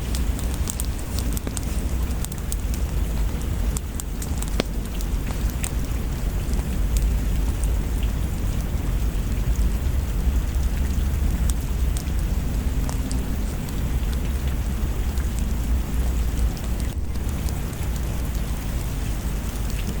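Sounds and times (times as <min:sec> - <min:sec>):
low rumble: 0:00.0 - 0:20.0
small crackles: 0:00.0 - 0:20.0
steady rain: 0:00.0 - 0:20.0.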